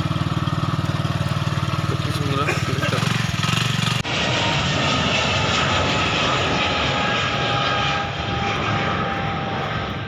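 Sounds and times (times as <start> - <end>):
airliner engine noise: 0.0 - 10.0.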